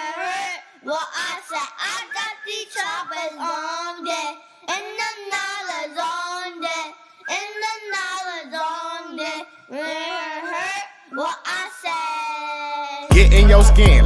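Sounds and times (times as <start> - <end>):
child singing unaccompanied: 0.0 - 14.0.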